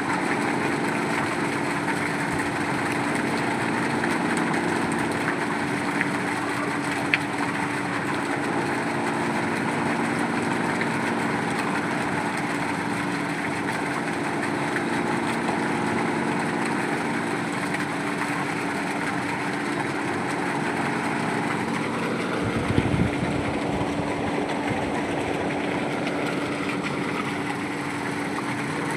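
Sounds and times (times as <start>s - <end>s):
boring machine engine running: 0.0s - 28.9s.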